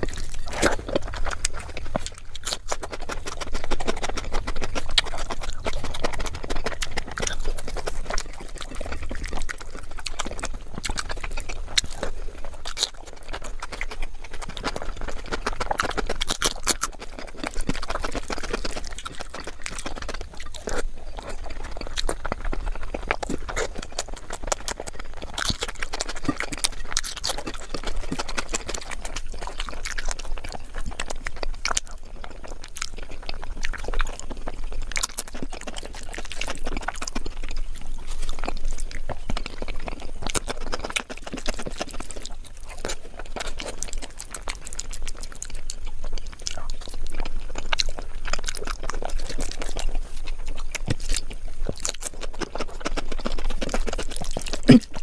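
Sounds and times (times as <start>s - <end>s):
wet chewing with mouth smacking: 0.0s - 55.0s.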